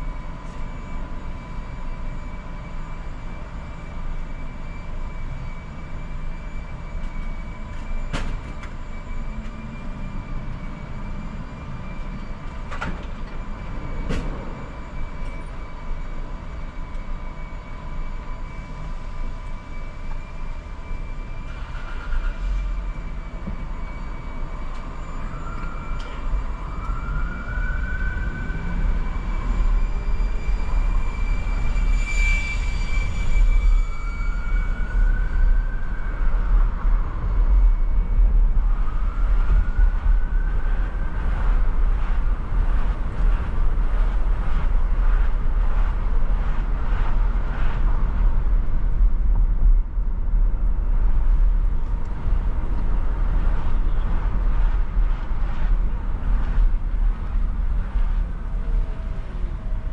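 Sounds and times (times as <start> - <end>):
high whine: 0.0 - 59.9
whine rising in pitch: 0.0 - 59.9.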